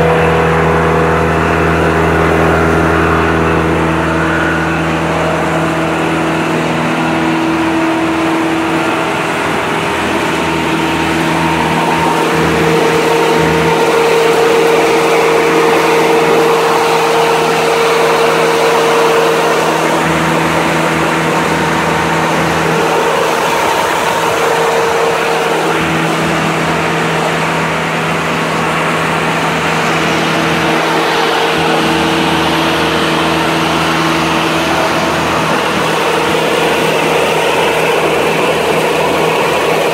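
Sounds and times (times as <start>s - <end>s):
wood chipper diesel engine running: 0.0s - 39.9s.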